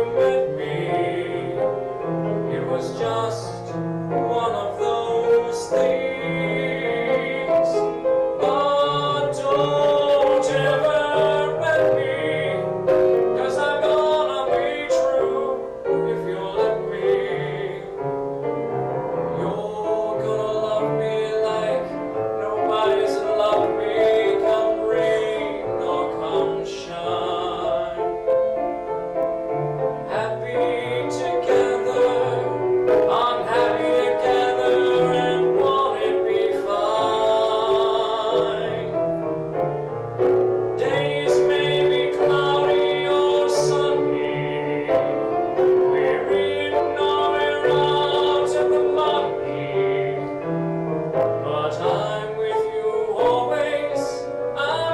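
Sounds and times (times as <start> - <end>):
man singing ballad: 0.0 - 18.1, 19.3 - 28.3, 30.0 - 39.0, 40.8 - 50.4, 51.4 - 54.9
piano accompaniment: 0.0 - 54.9.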